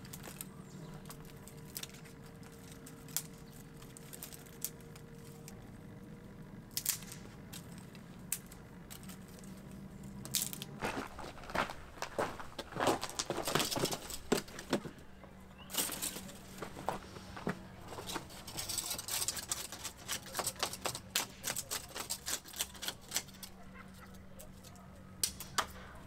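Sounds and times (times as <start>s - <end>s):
dry branches snapping: 0.0s - 26.0s.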